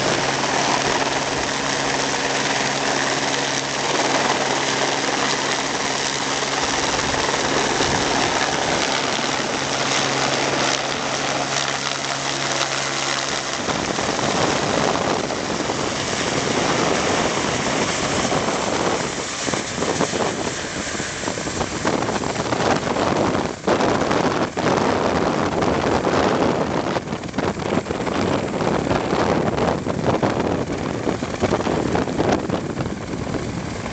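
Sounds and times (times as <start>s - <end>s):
model aircraft engine buzzing: 0.0s - 33.9s
wind on microphone: 0.0s - 33.9s.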